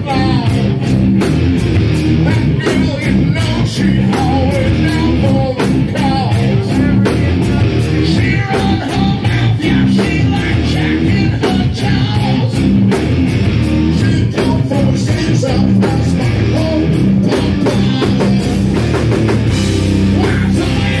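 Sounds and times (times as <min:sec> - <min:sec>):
drum kit beat: 0:00.0 - 0:21.0
electric guitar: 0:00.0 - 0:21.0
live rock band playing: 0:00.0 - 0:21.0.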